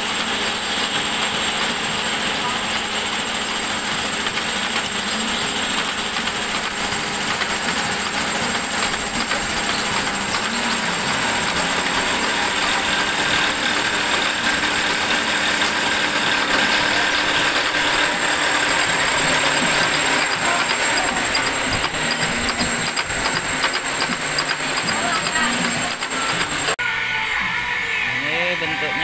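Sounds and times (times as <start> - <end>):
milling machine cutting steel: 0.0 - 26.8.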